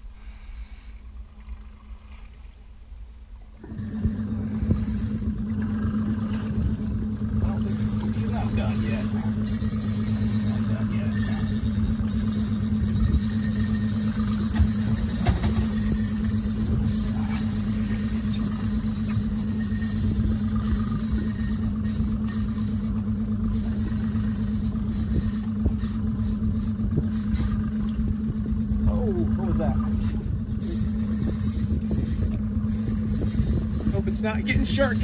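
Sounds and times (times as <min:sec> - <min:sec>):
boat motor droning: 0:00.0 - 0:35.0.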